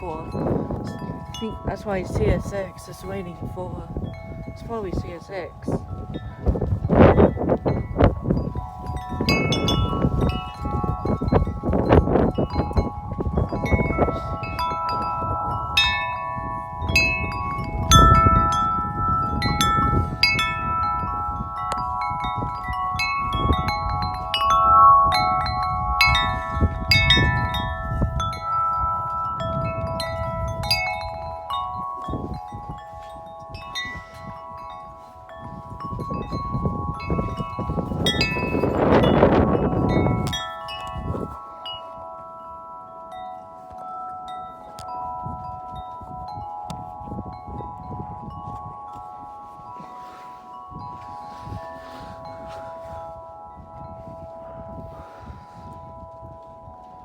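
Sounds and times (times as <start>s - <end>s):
wind chime ringing: 0.0s - 57.0s
wind rumble on microphone: 0.0s - 57.0s.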